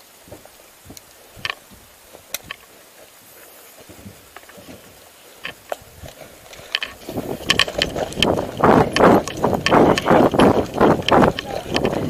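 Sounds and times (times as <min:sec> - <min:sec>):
footsteps on sand: 0:00.0 - 0:12.0
gear rattling and clicking: 0:00.3 - 0:02.8, 0:04.0 - 0:12.0.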